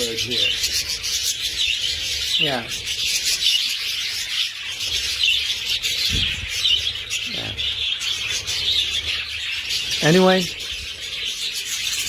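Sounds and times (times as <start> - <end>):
birds chattering and chirping: 0.0 - 12.0.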